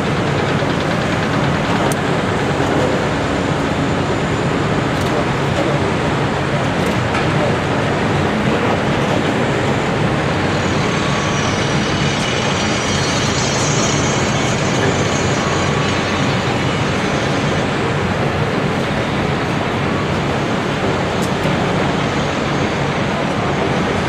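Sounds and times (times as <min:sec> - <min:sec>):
excavator diesel engine under load: 0:00.0 - 0:24.0
high-pitched whine: 0:00.0 - 0:24.0.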